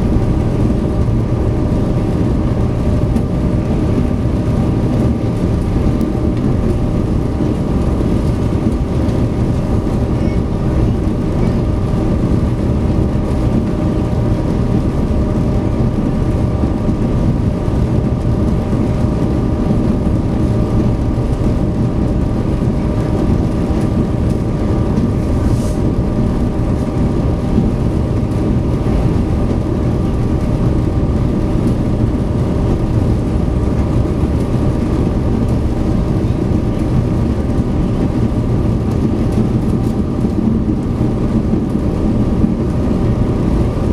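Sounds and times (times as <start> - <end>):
ferry engines droning: 0.0 - 43.9.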